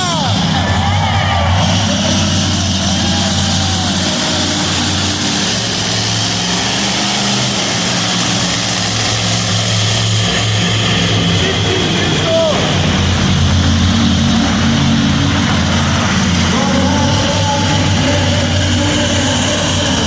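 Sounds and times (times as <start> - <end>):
truck engine idling loudly: 0.0 - 20.0.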